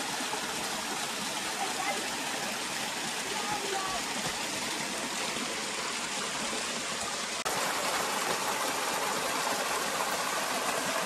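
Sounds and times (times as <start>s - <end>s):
water rushing down rock channel: 0.0s - 11.0s.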